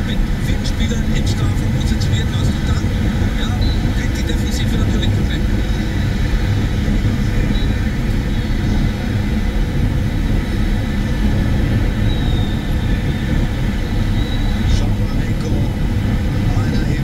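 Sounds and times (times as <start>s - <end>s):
car driving at motorway speed: 0.0s - 17.0s.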